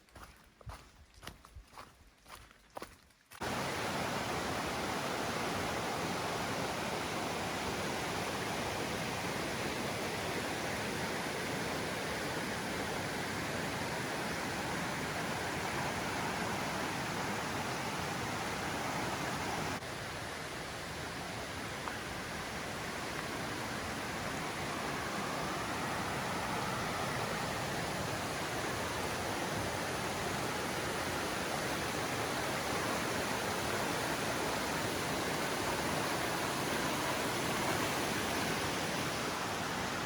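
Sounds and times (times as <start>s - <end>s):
water rushing: 3.4s - 40.0s.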